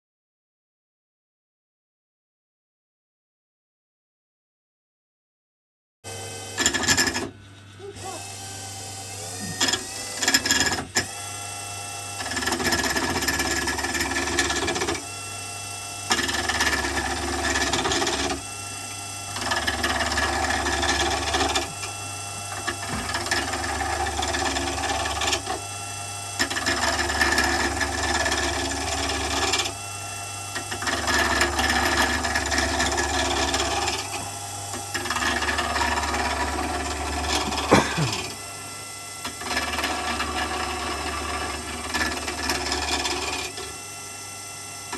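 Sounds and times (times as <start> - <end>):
lathe motor hum: 6.1 - 44.9
turning tool cutting wood on lathe: 6.1 - 44.9.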